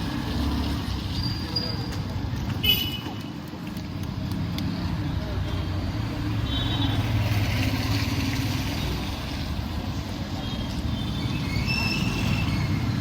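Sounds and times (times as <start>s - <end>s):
passing cars and trucks: 0.0s - 13.0s.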